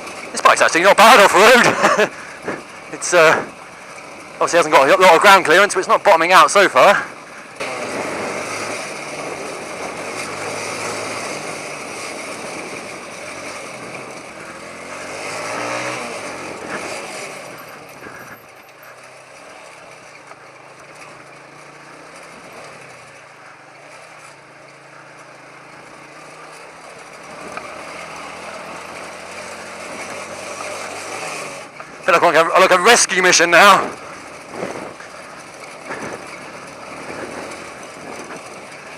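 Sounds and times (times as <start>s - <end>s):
motorcycle engine under way: 0.0s - 38.9s.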